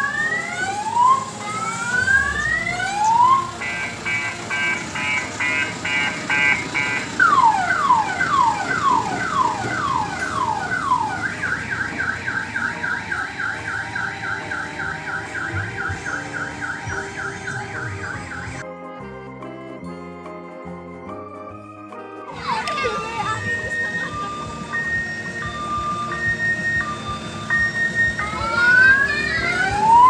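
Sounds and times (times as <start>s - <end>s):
electronic car alarm siren: 0.0s - 18.7s, 21.8s - 30.0s.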